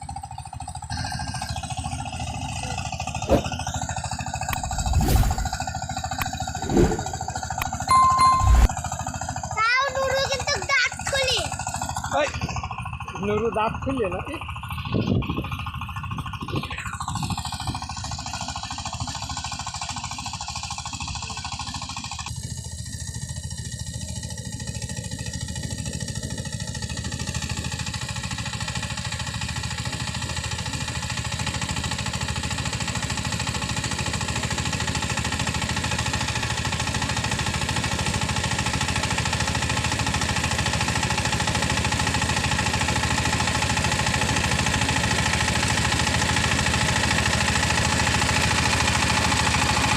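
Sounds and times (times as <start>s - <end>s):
power tiller diesel engine chugging: 0.0s - 8.1s, 8.8s - 49.9s.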